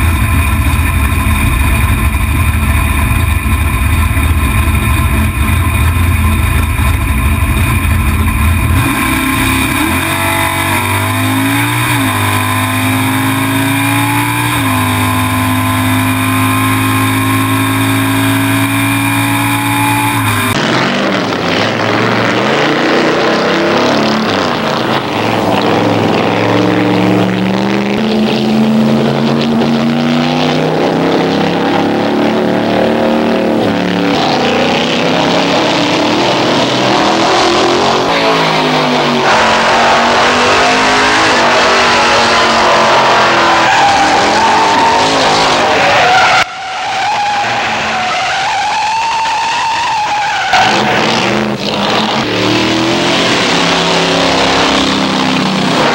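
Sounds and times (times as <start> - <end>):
high wavering tire squeal: 0.0 - 55.9
race car engine running hard: 0.0 - 55.9.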